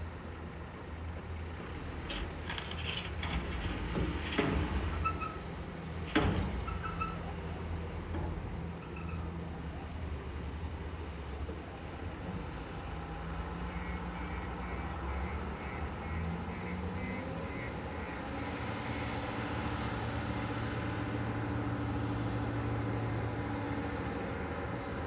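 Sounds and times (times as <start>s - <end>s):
heavy diesel engines running: 0.0s - 25.0s.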